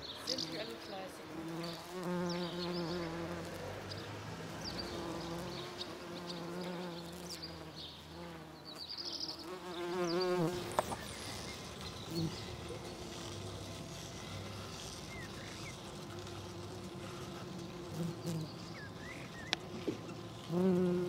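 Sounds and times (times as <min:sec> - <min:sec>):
bumblebee buzzing in flight: 0:00.3 - 0:21.0.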